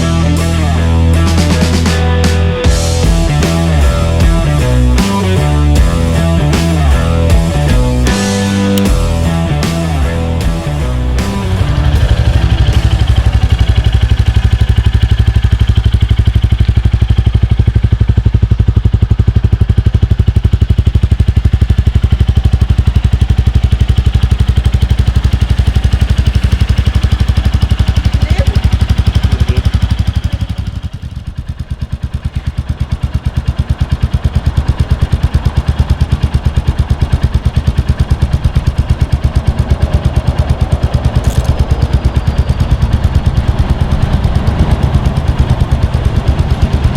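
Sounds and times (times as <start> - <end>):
motorcycle engine thumping: 1.2 - 46.9.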